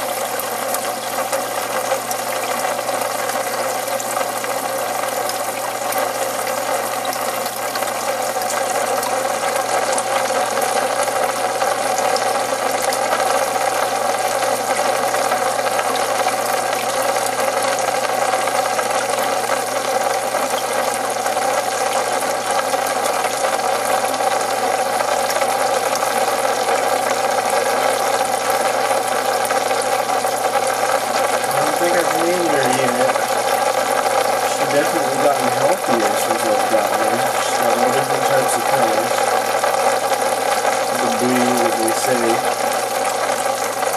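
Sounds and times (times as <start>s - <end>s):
aquarium pump whirring: 0.0s - 43.9s
water noise: 0.0s - 43.9s.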